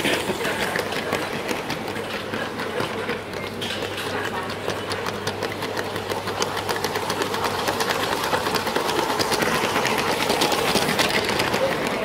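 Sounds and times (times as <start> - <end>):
plastic wheels clicking on track: 0.0 - 12.0.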